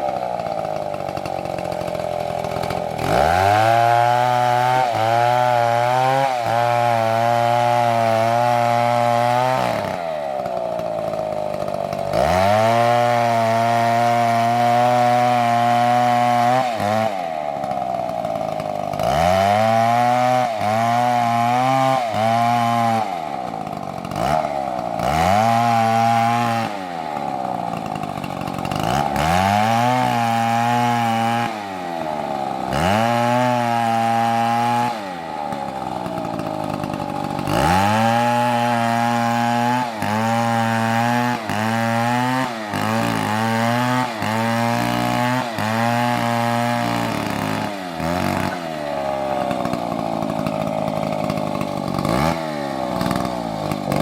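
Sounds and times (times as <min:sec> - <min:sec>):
chainsaw cutting tree: 0:00.0 - 0:54.0.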